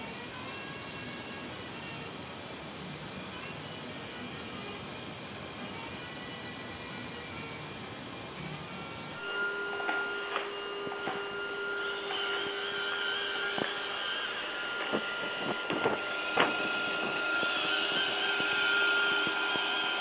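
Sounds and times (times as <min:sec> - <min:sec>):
robot vacuum motor whine: 0:00.0 - 0:20.0.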